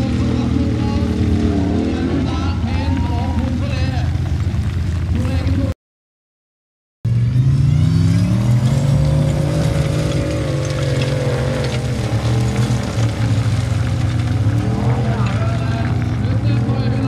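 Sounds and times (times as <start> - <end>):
buggy engine revving hard: 0.0 - 4.4, 7.1 - 17.0.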